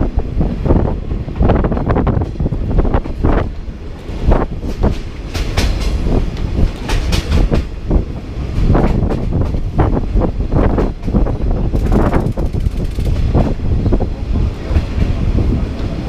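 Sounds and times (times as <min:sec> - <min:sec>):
train carriage rumbling: 0:00.0 - 0:16.0.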